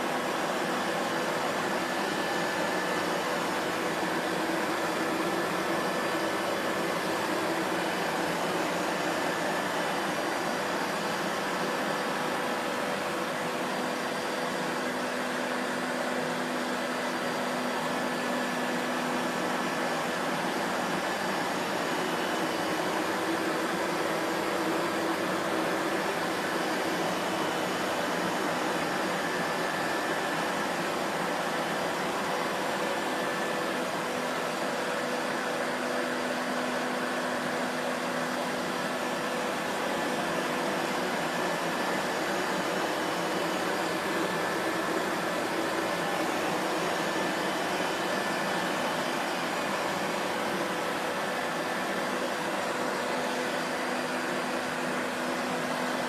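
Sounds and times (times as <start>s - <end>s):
vacuum cleaner motor running: 0.0s - 56.0s.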